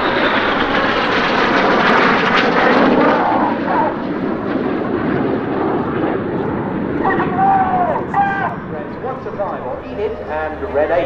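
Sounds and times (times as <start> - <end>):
jets flying past: 0.0 - 11.0.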